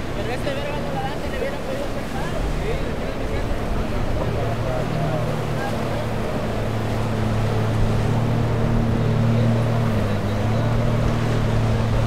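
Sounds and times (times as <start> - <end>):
boat engine humming: 0.0 - 12.0
surf washing: 0.0 - 12.0.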